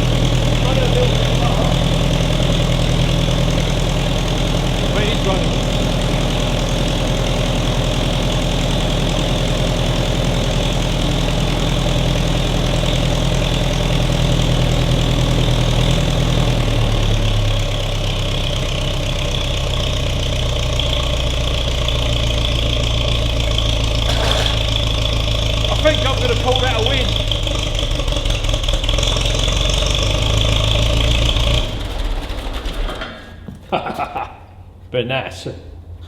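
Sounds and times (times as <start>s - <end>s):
tractor engine running: 0.0s - 33.8s.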